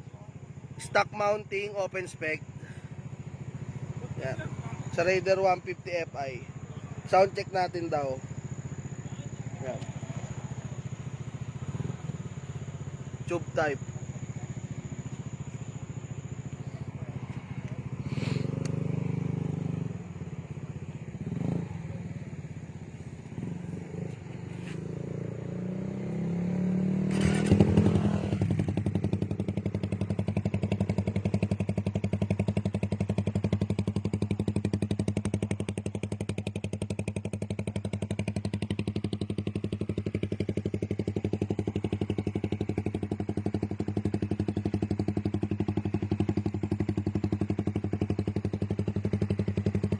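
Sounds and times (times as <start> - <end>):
motorcycle engine idling: 0.0 - 26.5, 27.1 - 49.9.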